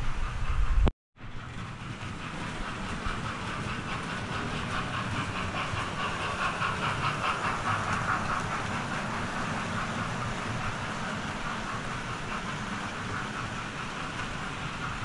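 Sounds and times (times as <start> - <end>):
model train wheels clicking: 0.0 - 15.0.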